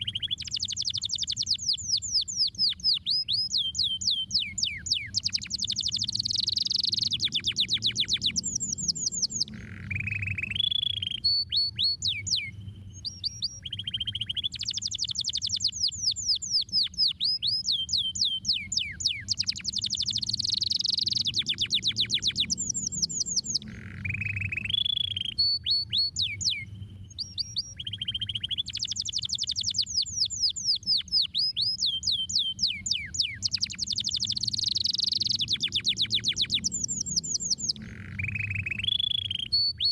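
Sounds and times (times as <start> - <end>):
canary singing trills: 0.0 - 39.9
faint low background rumble: 0.0 - 39.9.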